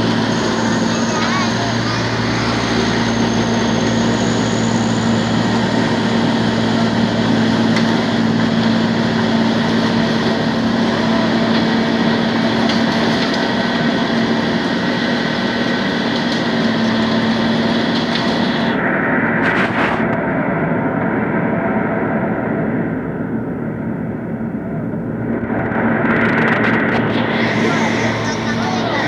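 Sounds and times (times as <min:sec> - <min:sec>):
machinery engine humming: 0:00.0 - 0:29.0.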